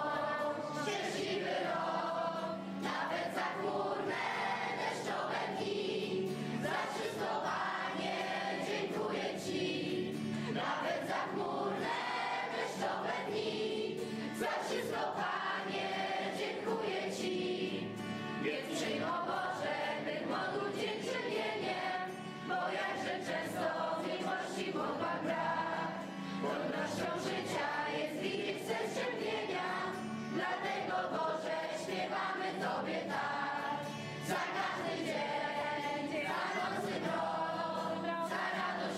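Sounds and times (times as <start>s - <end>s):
choir singing: 0.0s - 38.9s
strummed acoustic guitar: 0.0s - 38.9s.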